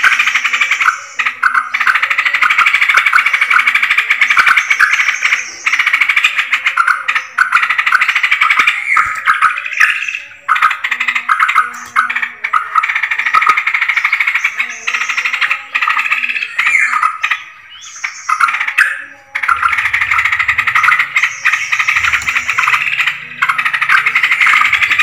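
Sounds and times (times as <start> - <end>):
bulbuls chattering and calling: 0.0 - 25.0.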